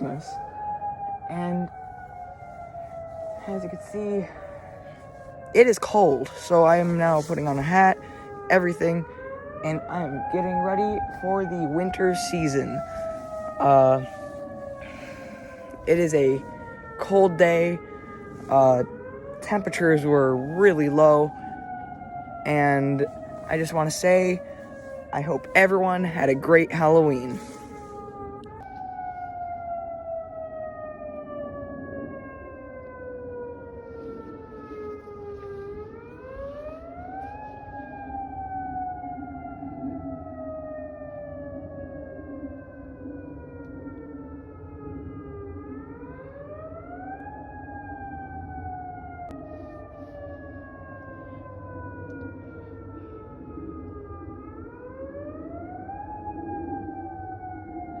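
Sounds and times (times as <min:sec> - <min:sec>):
tornado siren wailing: 0:00.0 - 0:58.0.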